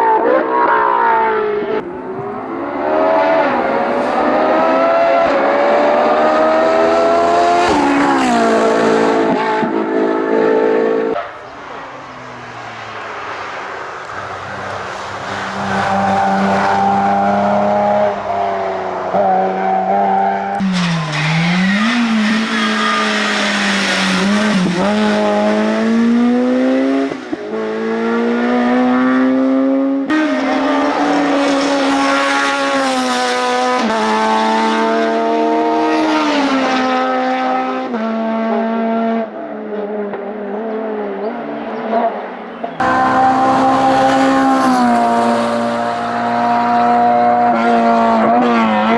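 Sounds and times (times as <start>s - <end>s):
race car engines at full throttle: 0.0s - 48.9s.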